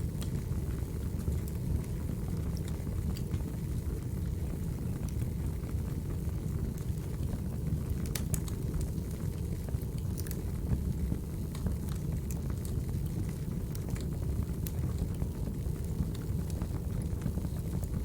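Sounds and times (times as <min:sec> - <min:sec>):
fire popping and crackling: 0:00.0 - 0:18.0
log fire rumbling: 0:00.0 - 0:18.0.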